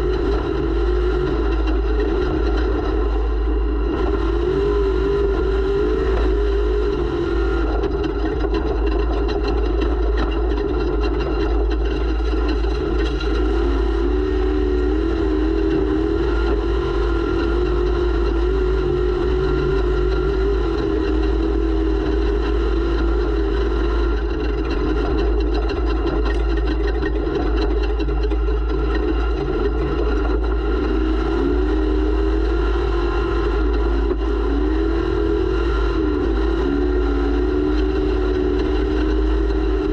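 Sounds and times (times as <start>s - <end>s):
low rumble of vibration: 0.0s - 39.9s
off-road vehicle engine running: 0.0s - 39.9s.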